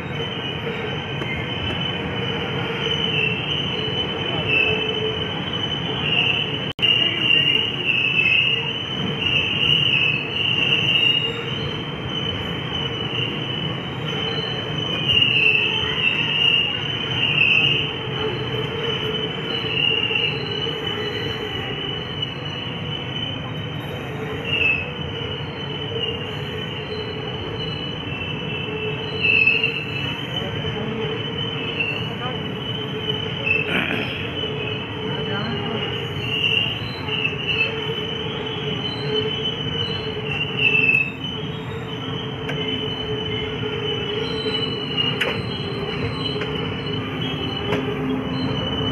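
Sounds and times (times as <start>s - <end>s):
train running rumble: 0.0s - 48.9s
train wheels squealing on rails: 0.0s - 48.9s.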